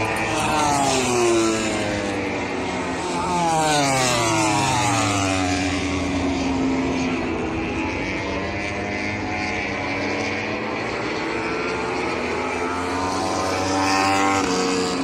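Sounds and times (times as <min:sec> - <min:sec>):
racing motorcycle passing: 0:00.0 - 0:15.0.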